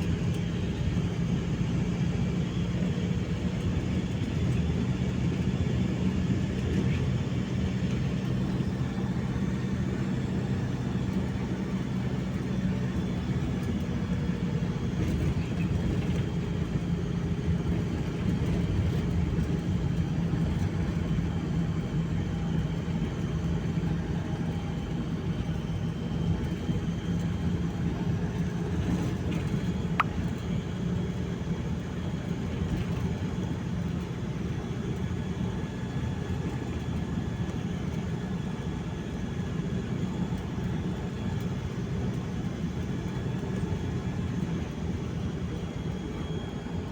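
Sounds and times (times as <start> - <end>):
vehicle engine droning: 0.0 - 46.9.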